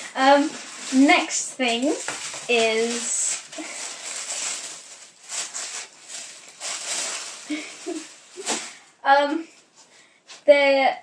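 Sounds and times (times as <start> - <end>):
tissue paper rustling: 0.0 - 8.9.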